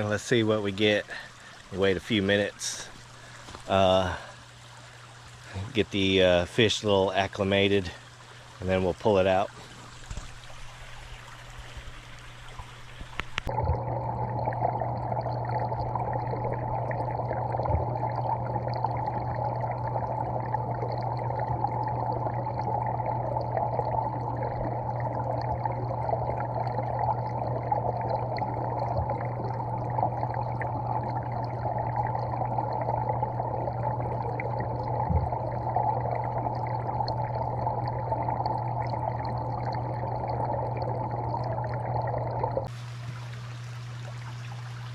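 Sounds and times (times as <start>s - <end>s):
dull underwater rush: 0.0s - 44.9s
muffled underwater creek water: 0.0s - 44.9s.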